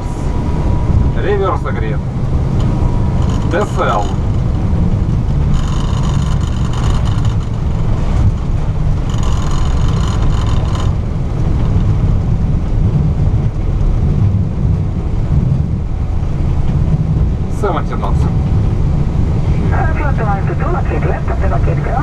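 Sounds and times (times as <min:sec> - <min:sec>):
deep rumble of wheels and engines: 0:00.0 - 0:22.0
rising engine whine: 0:00.0 - 0:22.0.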